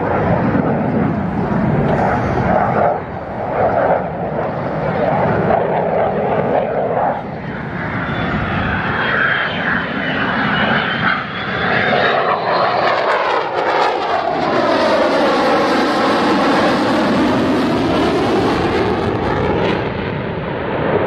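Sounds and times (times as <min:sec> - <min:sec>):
high jet whine: 0:00.0 - 0:21.0
jet engine roar: 0:00.0 - 0:21.0.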